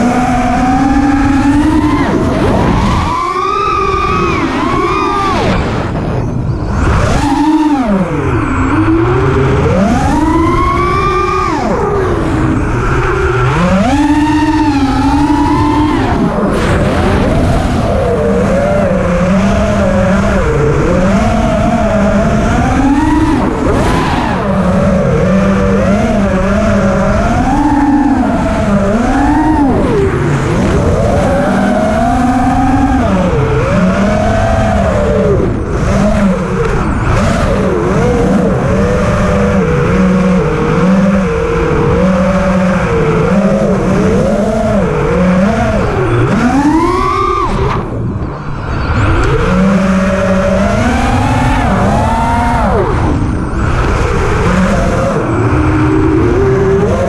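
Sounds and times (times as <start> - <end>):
rushing air rumble: 0.0 - 38.7, 45.6 - 56.8
drone propellers whining: 0.0 - 57.0.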